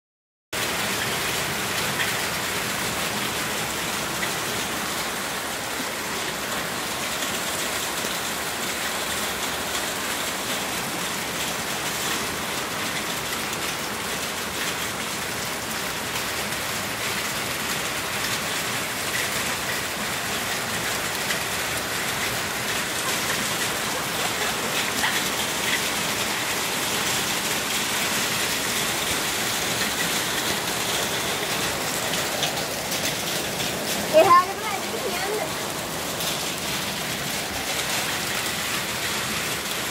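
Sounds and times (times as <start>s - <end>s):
hail and heavy rain: 0.6s - 39.9s.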